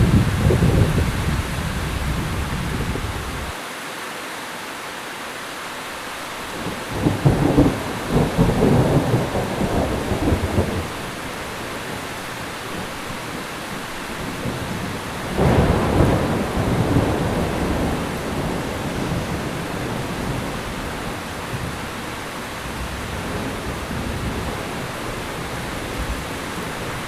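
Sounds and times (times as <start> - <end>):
thunder rumbling: 0.0 - 3.5, 6.5 - 27.0
heavy rain falling: 0.0 - 27.0.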